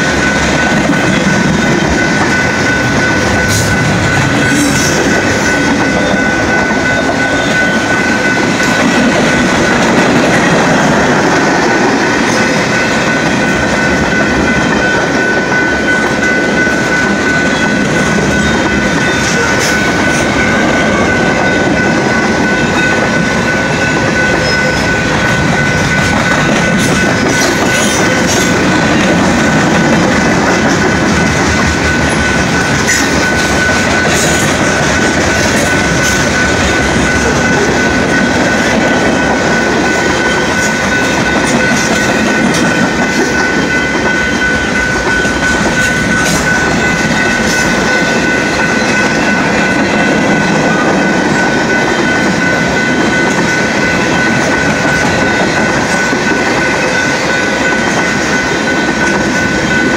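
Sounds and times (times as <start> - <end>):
crossing warning bell ringing: 0.0 - 59.9
freight train rolling: 0.0 - 59.9.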